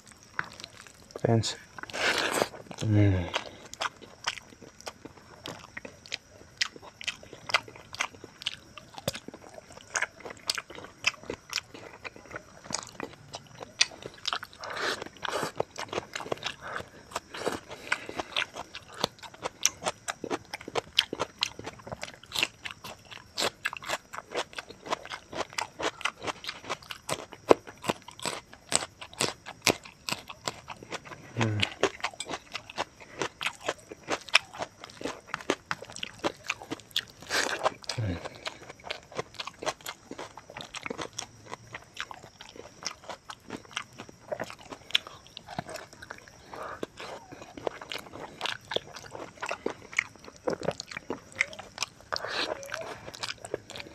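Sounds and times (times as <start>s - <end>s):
chewing and lip smacking: 0.0s - 53.9s.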